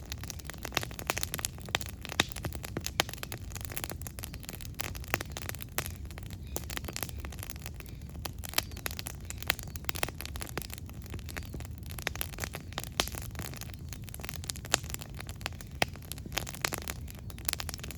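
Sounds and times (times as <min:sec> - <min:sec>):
campfire pops and snaps: 0:00.0 - 0:17.9
low rumble of fire: 0:00.0 - 0:17.9.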